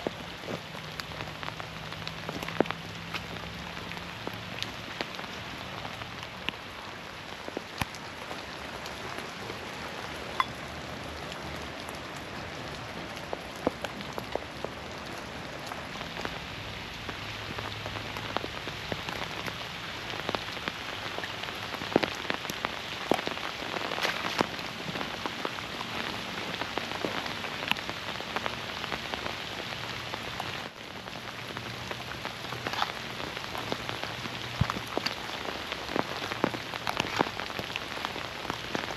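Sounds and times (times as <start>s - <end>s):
raindrops ticking: 0.0s - 38.9s
steady rain: 0.0s - 38.9s.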